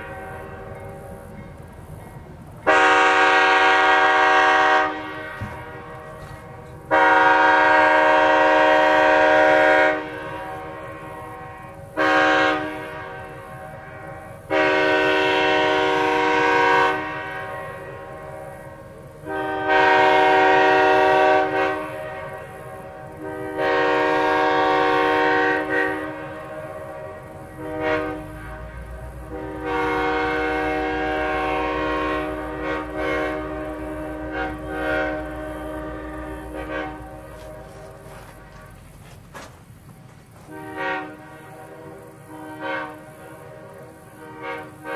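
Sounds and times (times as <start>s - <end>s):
air horn blasts: 2.6s - 38.7s, 40.4s - 44.9s.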